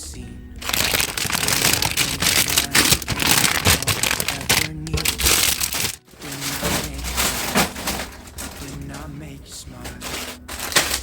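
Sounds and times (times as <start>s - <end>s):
plastic bags crinkling: 0.6s - 11.0s.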